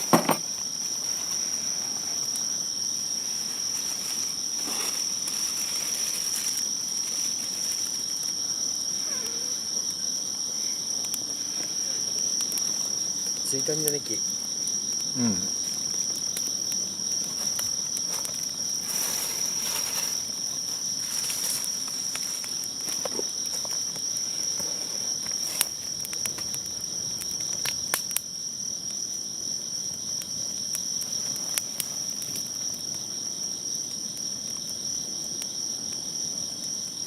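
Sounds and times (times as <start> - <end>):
fire crackling: 0.0 - 37.0
insects chirring: 0.0 - 37.0.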